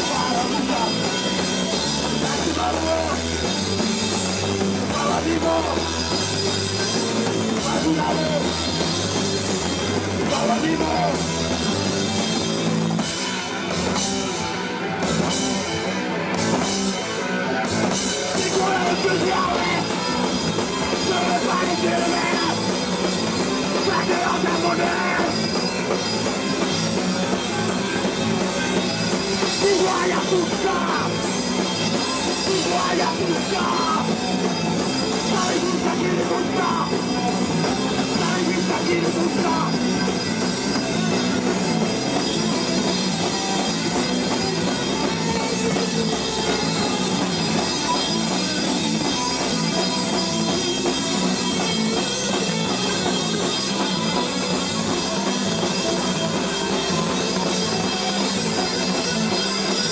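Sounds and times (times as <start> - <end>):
punk band playing live: 0.0 - 59.9.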